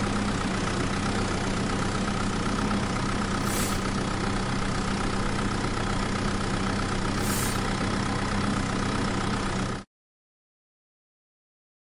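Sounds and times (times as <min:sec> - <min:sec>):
vehicle engine idling: 0:00.0 - 0:09.9.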